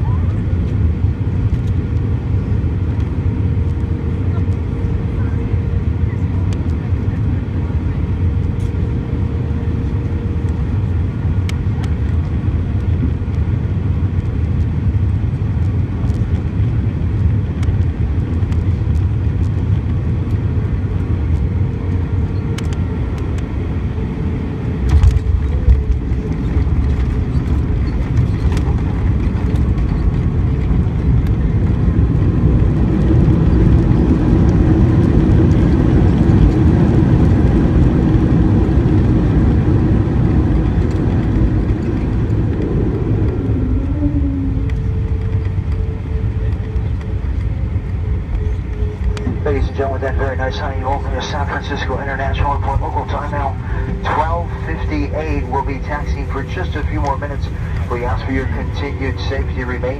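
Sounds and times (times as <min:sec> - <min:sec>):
aircraft engines and airflow rumble: 0:00.0 - 0:59.9.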